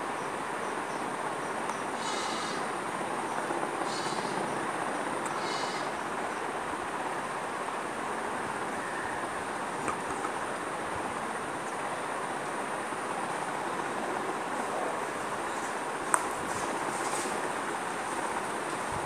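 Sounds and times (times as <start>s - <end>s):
faint high whine: 0.0s - 19.0s
steady rushing noise: 0.0s - 19.0s.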